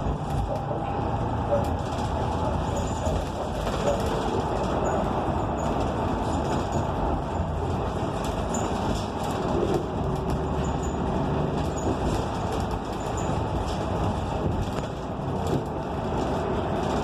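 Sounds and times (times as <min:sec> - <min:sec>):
moving vehicle rumbling: 0:00.0 - 0:17.0.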